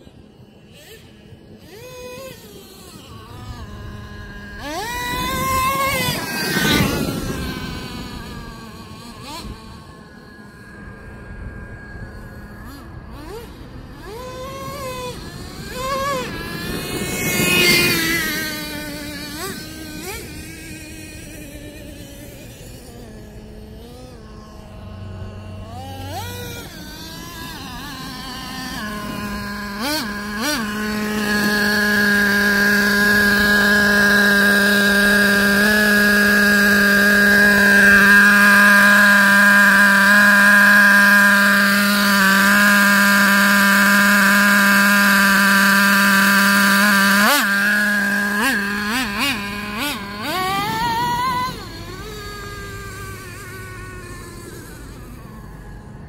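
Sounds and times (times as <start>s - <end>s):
rc truck engine revving: 0.0s - 56.0s.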